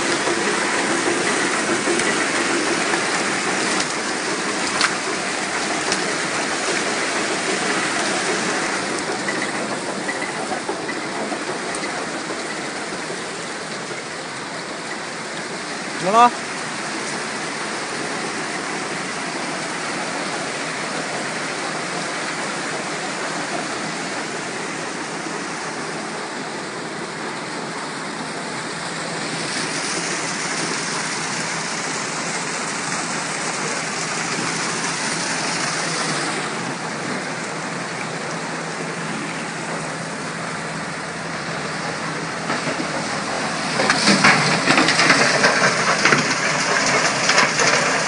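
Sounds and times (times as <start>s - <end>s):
muddy water rushing through troughs: 0.0s - 48.0s.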